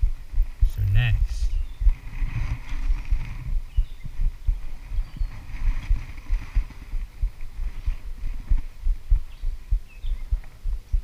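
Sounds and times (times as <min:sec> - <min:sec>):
low thumping and rumbling: 0:00.0 - 0:11.0.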